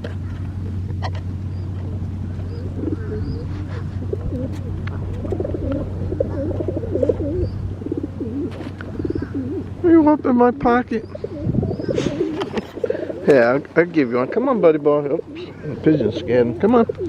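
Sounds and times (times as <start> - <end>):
low hum: 0.0 - 17.0
pigeon cooing: 0.2 - 17.0.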